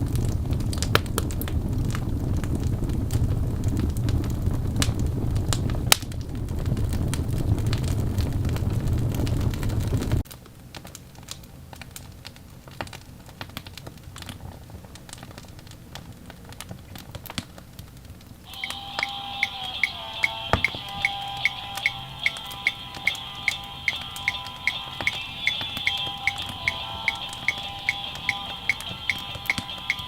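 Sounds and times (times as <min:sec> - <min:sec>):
log fire crackling: 0:00.0 - 0:30.0.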